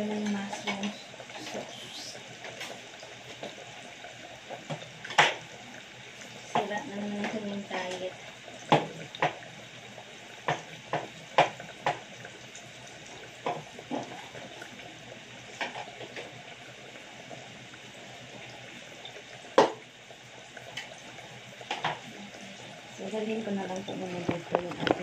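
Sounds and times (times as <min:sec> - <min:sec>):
sauce sizzling and bubbling: 0:00.0 - 0:25.0.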